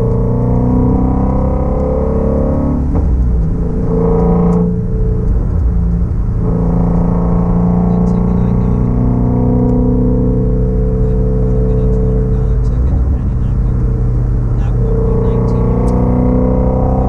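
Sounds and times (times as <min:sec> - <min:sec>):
car engine and exhaust running: 0:00.0 - 0:17.0.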